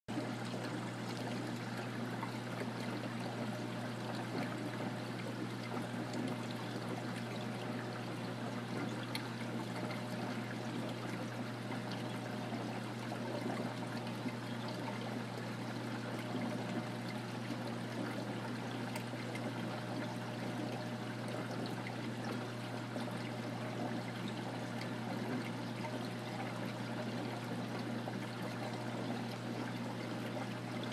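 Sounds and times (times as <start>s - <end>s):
steady low hum: 0.1s - 28.2s
aquarium water trickling: 0.1s - 30.9s.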